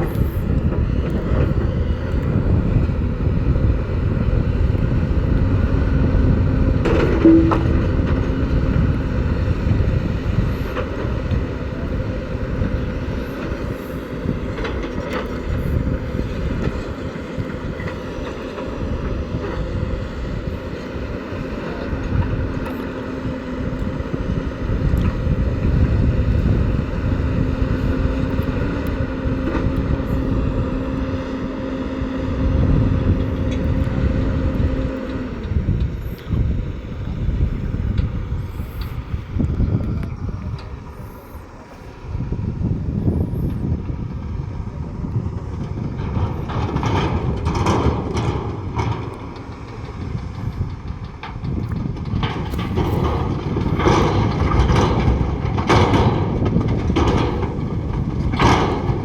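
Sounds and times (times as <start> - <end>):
heavy diesel engine rumbling: 0.0 - 59.0.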